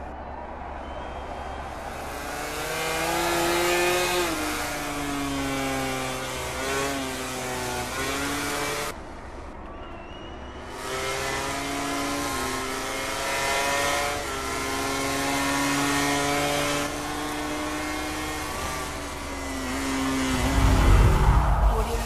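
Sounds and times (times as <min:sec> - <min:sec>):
racing motorcycle engine: 0:01.9 - 0:09.0, 0:10.5 - 0:22.0.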